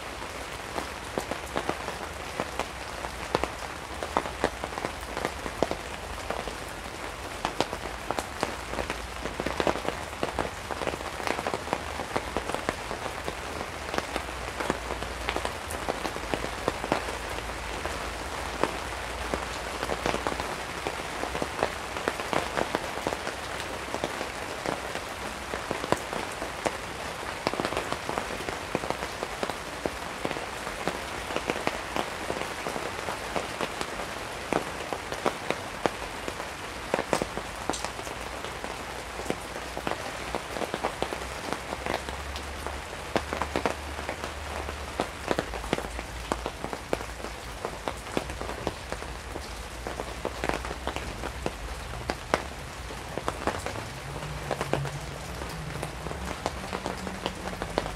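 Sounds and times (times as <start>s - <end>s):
rain falling on a tarp: 0.0s - 57.9s.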